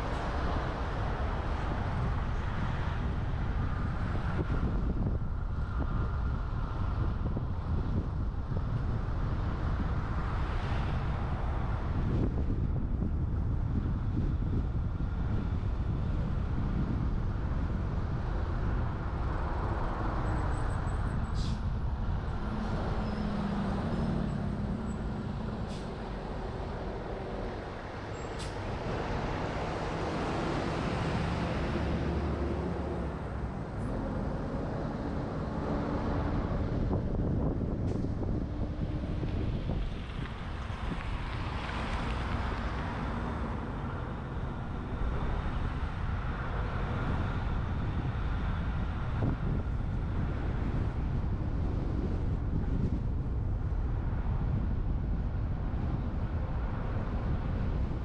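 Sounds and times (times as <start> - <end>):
low road and engine rumble: 0.0 - 58.0
wind rushing over camera: 0.0 - 58.0.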